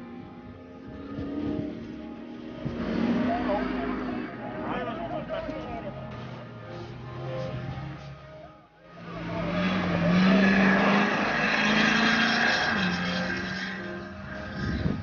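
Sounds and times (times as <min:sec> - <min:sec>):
race car engine revving: 0:00.8 - 0:08.0, 0:08.9 - 0:15.0.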